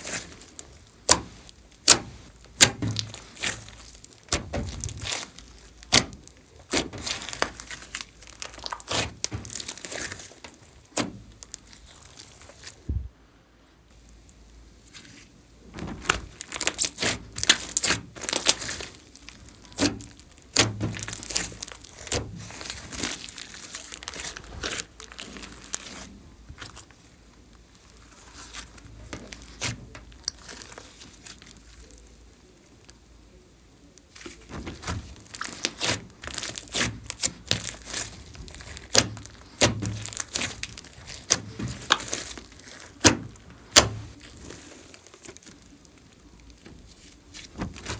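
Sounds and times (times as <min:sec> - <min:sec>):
slime crackling and popping: 0:00.0 - 0:12.8, 0:15.7 - 0:33.1, 0:34.0 - 0:47.9.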